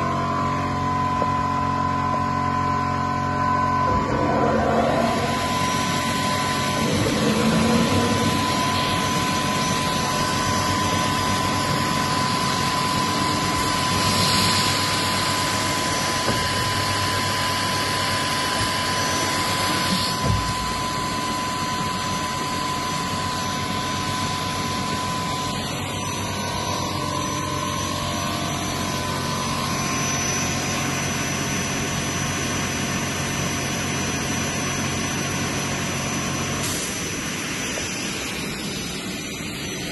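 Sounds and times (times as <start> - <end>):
mitre saw whining: 0.0 - 36.8.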